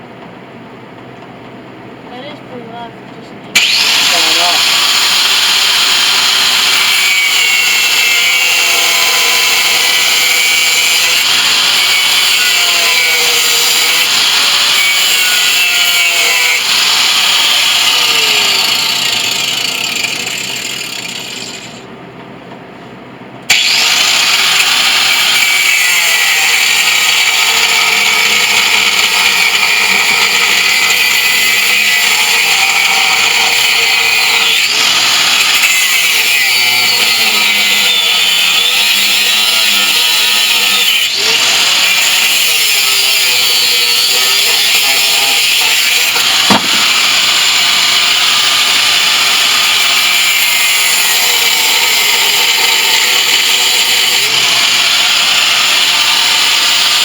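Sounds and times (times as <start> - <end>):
angle grinder whining: 3.5 - 21.9, 23.5 - 57.0.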